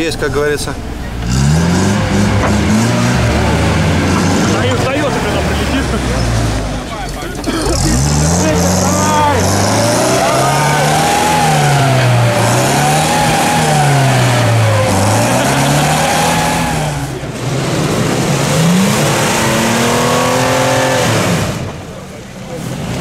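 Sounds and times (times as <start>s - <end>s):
car engine revving hard: 1.0s - 23.0s.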